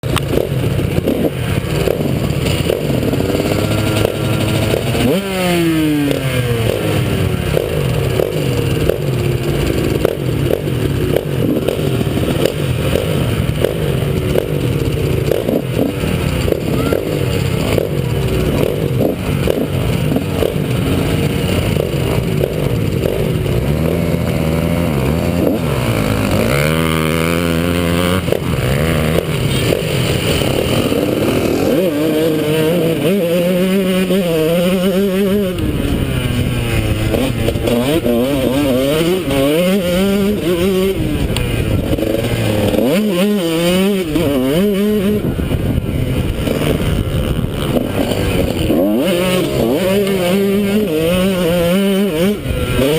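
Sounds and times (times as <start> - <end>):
motocross engine revving: 0.0 - 52.9.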